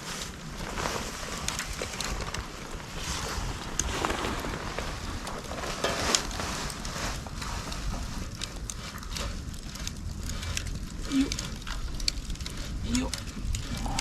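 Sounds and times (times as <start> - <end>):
bamboo fire crackling and popping: 0.0 - 14.0
wind on microphone: 0.0 - 14.0.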